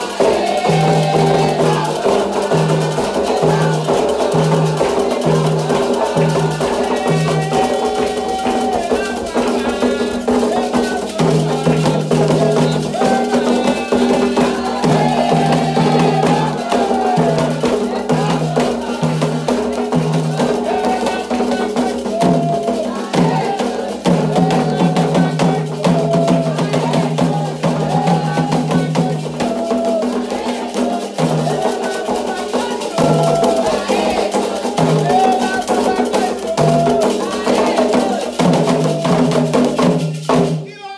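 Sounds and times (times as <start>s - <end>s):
metal bell rhythm: 0.0s - 40.4s
hand drums: 0.0s - 40.9s
voices singing: 0.0s - 40.9s.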